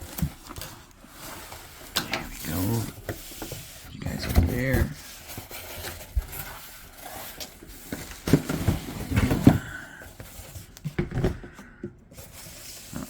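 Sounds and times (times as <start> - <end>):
cardboard packaging rustling: 0.0 - 11.5.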